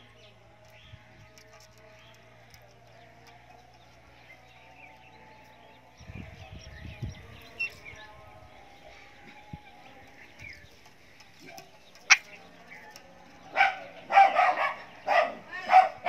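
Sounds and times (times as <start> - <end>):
birds chirping and twittering: 0.0 - 16.0.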